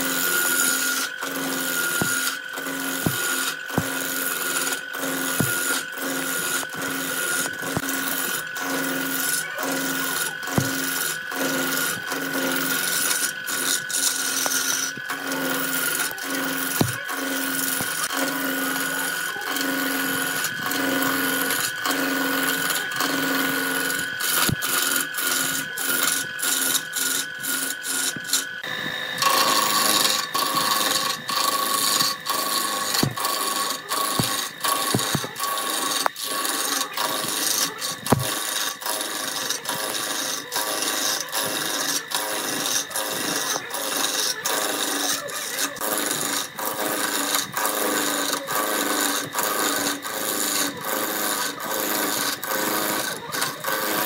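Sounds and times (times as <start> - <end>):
gouge cutting wood on lathe: 0.0 - 54.0
lathe motor steady tone: 0.0 - 54.0
tool chatter clicks: 0.0 - 54.0.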